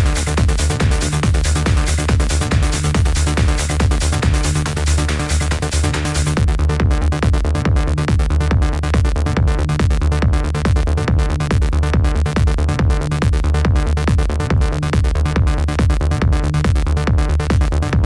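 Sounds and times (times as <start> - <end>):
electronic music with driving beat: 0.0 - 18.0.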